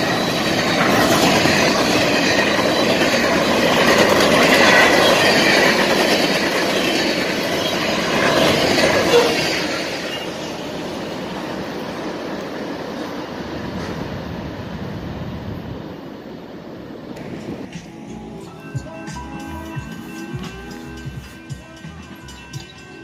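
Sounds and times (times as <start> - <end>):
freight train wheels clattering: 0.0 - 14.2, 17.1 - 23.0.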